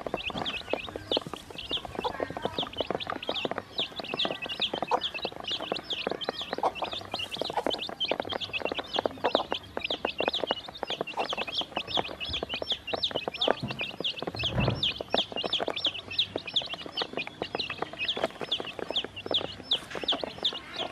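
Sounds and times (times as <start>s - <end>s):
baby chicks peeping: 0.0s - 20.9s
beaks pecking on plastic: 0.0s - 20.9s.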